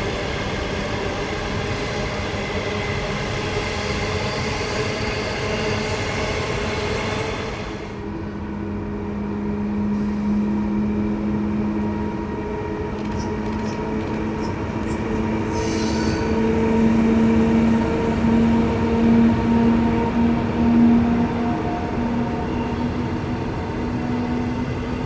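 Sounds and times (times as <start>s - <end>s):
train running along track: 0.0s - 25.0s.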